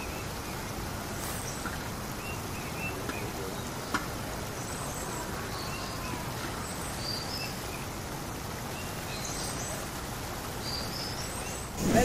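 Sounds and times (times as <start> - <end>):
birds chirping: 0.0 - 12.0
river rushing over rocks: 0.0 - 12.0.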